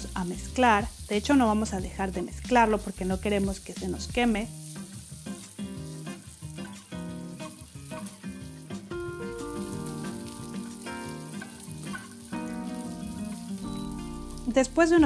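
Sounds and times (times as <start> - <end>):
background music with held notes: 0.0 - 15.0
rice sizzling in hot oil: 0.0 - 15.0.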